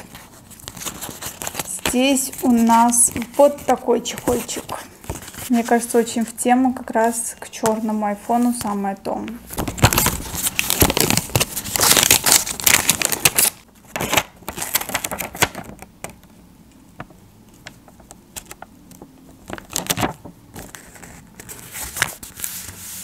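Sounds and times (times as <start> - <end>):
paper ticks and rustles: 0.0 - 5.8, 9.6 - 16.4, 17.0 - 23.0.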